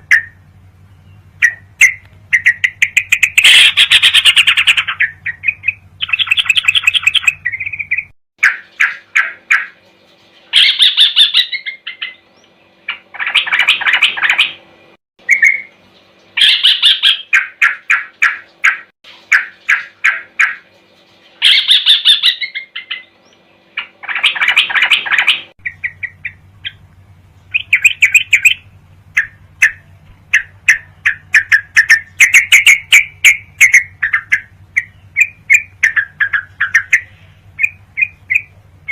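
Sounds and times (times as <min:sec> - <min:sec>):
bird chirps and whistles: 0:00.0 - 0:09.8, 0:10.5 - 0:14.6, 0:15.2 - 0:15.8, 0:16.4 - 0:20.7, 0:21.4 - 0:26.8, 0:27.5 - 0:28.6, 0:29.2 - 0:38.9
bird chattering trills: 0:00.0 - 0:38.9.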